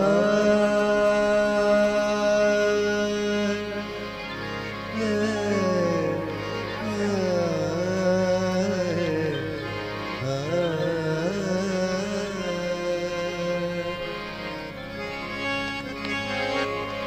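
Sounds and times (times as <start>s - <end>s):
person singing long ornamented notes: 0.0s - 17.0s
steady drone: 0.0s - 17.0s.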